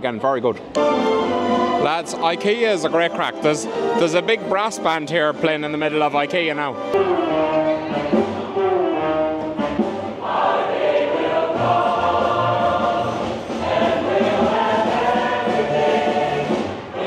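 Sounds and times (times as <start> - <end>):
brass band playing: 0.8 - 17.0.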